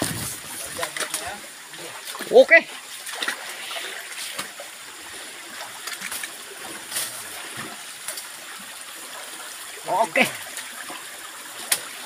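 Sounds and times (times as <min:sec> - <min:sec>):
stream splashing over rocks: 0:00.0 - 0:12.0.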